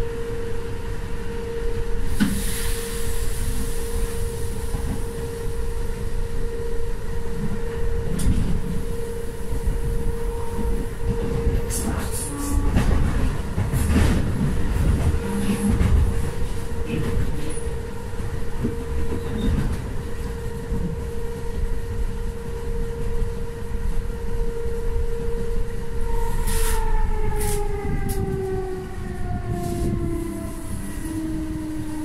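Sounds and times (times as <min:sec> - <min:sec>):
electric train whine: 0:00.0 - 0:32.0
train wheels rumbling on track: 0:01.9 - 0:32.0.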